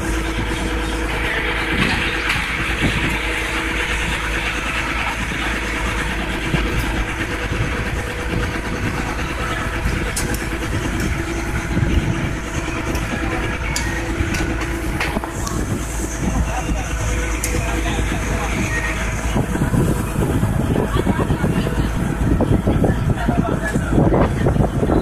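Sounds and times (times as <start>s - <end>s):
motorboat engine running: 0.0s - 25.0s.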